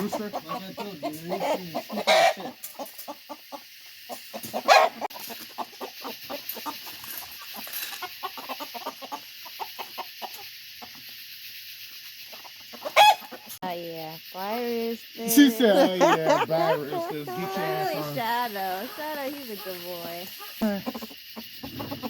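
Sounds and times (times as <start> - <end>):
chicken squawk: 0.0 - 11.0, 12.3 - 13.6, 15.6 - 22.0
chickens clucking: 0.0 - 13.6, 14.4 - 22.0.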